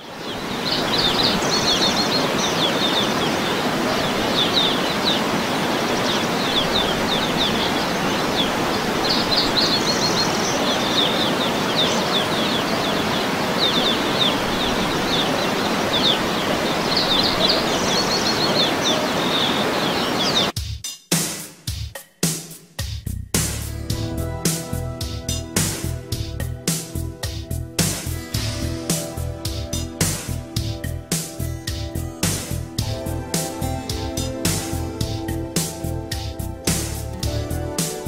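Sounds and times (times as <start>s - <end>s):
waterfall splashing: 0.0s - 20.5s, 24.5s - 38.0s
small birds chirping: 0.0s - 20.6s, 24.0s - 38.0s.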